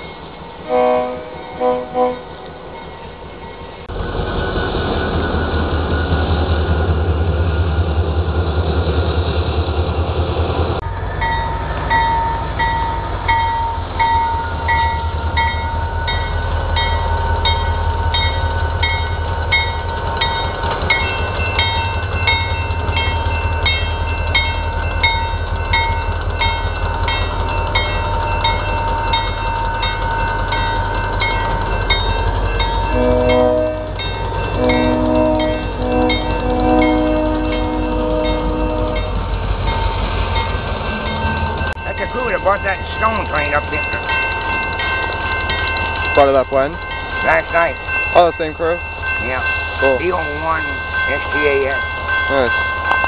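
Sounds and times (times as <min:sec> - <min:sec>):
locomotive bell ringing: 0:00.0 - 0:07.0, 0:10.8 - 0:53.0
diesel locomotive engine rumbling: 0:00.0 - 0:53.0.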